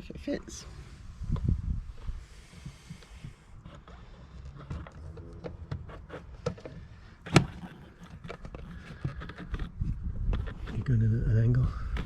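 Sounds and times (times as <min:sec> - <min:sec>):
light plastic scrapes: 0:01.4 - 0:12.0.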